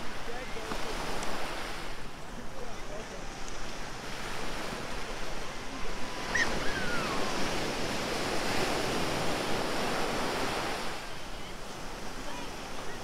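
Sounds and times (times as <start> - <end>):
small waves washing over sand: 0.0 - 13.0.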